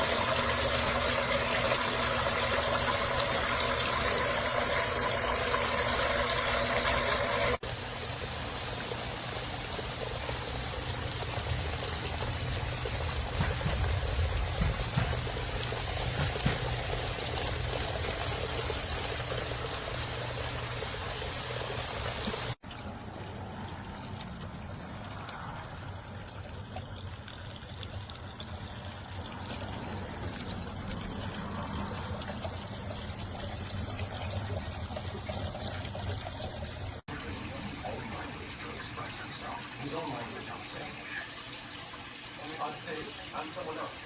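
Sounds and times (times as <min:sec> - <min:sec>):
fountain water pouring: 0:00.0 - 0:44.0.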